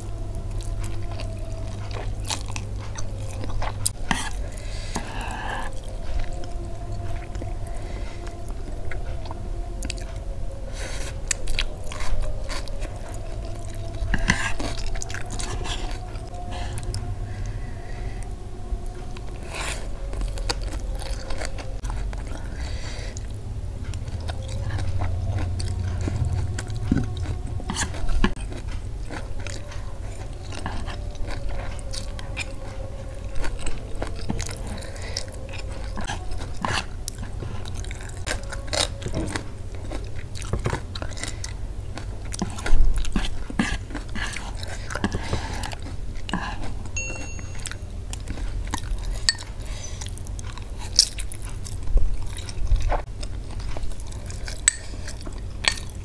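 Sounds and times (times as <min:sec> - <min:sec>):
person chewing noodles: 0:00.0 - 0:56.0.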